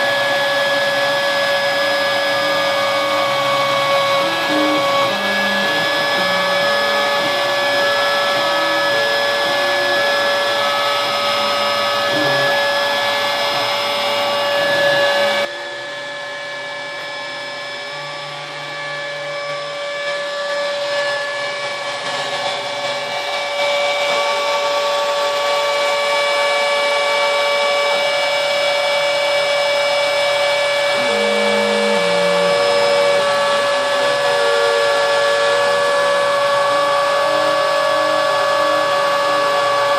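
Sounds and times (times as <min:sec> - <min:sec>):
spindle high whine: 0:00.0 - 0:39.9
stepper motor tones: 0:00.0 - 0:39.9.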